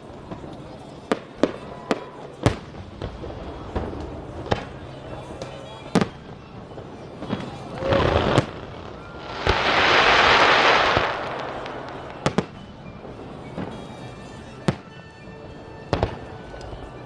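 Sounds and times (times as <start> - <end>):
fireworks crackling rush: 0.0 - 14.9.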